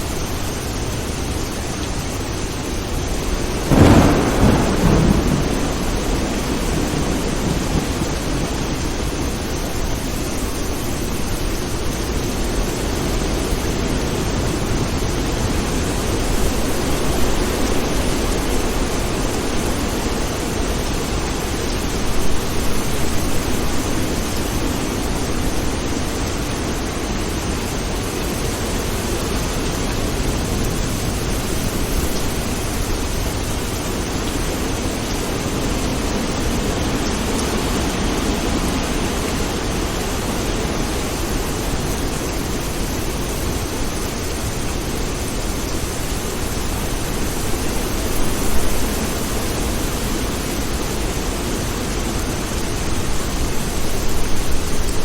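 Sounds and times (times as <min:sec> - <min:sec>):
steady rain hissing: 0:00.0 - 0:55.0
low rumble of thunder: 0:02.1 - 0:55.0.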